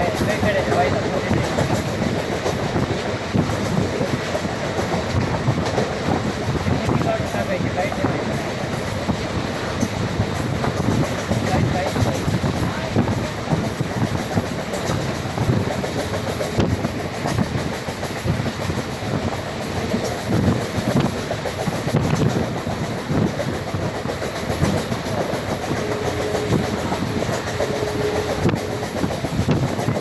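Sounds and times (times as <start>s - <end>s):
train rumbling along track: 0.0s - 30.0s
wheels clacking over rail joints: 0.0s - 30.0s.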